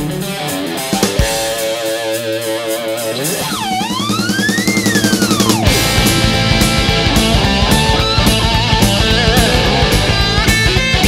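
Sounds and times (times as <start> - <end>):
electric guitar lead slide: 0.0 - 11.0
rock music: 0.0 - 11.0.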